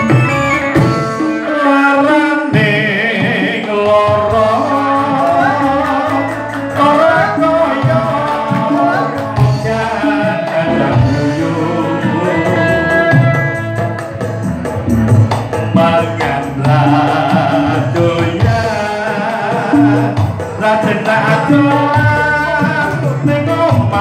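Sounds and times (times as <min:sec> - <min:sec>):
man singing into microphone: 0:00.0 - 0:14.8, 0:15.5 - 0:24.0.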